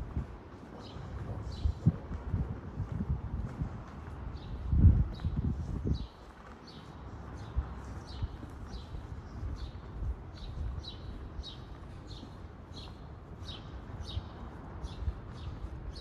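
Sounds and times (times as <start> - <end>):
faint outdoor background: 0.0 - 16.0
footsteps on stone paving: 0.0 - 16.0.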